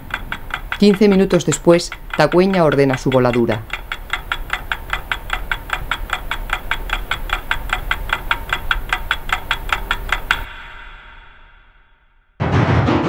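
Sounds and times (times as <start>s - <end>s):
rapid clock-like ticking: 0.0s - 10.8s.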